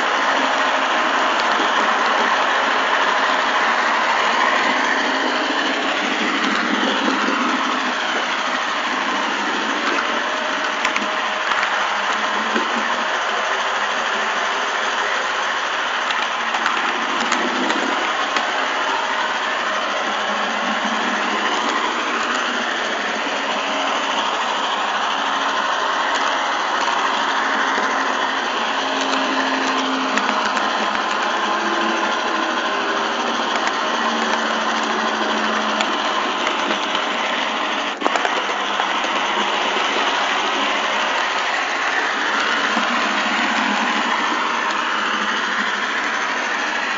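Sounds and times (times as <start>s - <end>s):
model train running on track: 0.0s - 46.9s.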